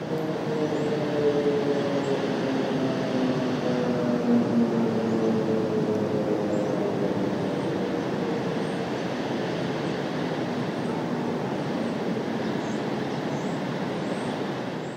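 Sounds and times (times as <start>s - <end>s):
warning siren winding down: 0.0s - 12.3s
steady rushing noise: 0.0s - 14.9s.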